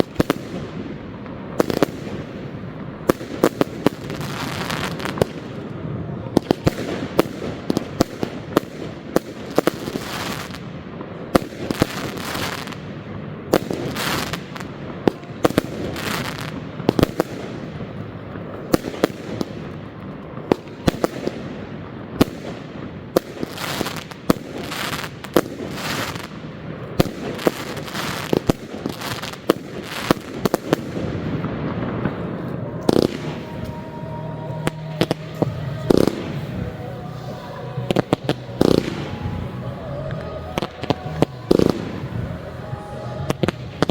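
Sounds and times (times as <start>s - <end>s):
fireworks bangs: 0.0s - 43.9s
fireworks crackle: 0.0s - 43.9s.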